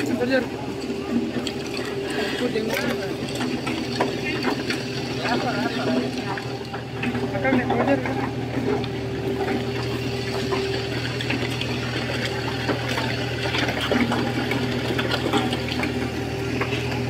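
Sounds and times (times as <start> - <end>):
road roller engine humming: 0.0 - 17.0.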